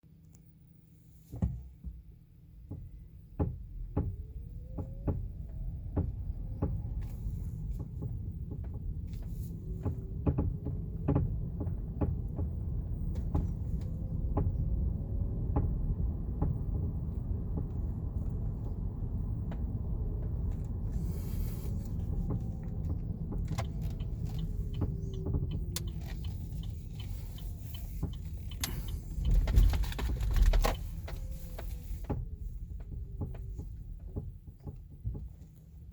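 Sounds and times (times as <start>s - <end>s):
road rumble: 0.1s - 35.9s
suspension creaking and clicking: 2.7s - 35.9s.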